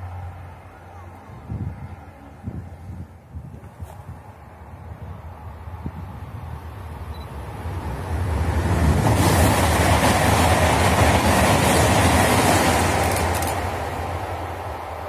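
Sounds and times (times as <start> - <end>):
high-speed train passing: 0.0 - 3.4, 4.1 - 15.0.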